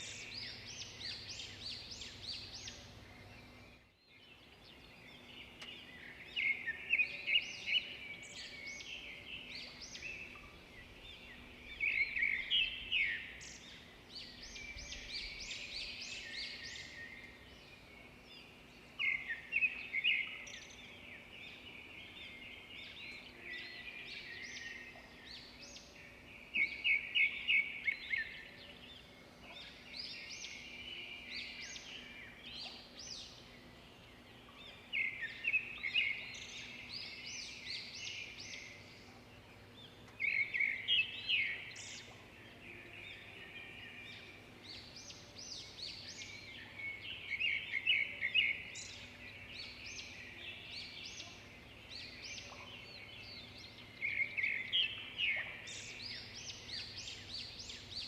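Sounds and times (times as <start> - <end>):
songbirds chirping in chorus: 0.0 - 58.0.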